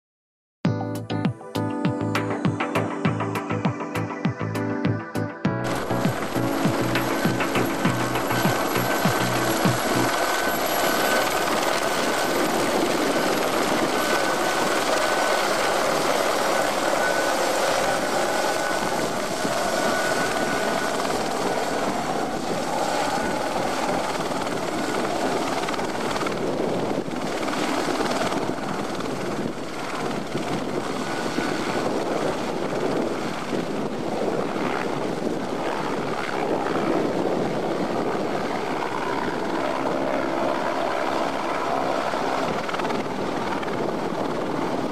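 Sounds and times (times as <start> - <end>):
high turbine whine: 1.4 - 44.9
helicopter rotor roar: 5.5 - 44.9.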